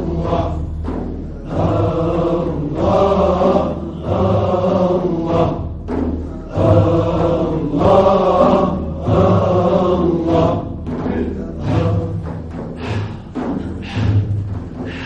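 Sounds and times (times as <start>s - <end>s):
frame drums beating: 0.0s - 15.0s
men chanting in unison: 0.0s - 15.0s.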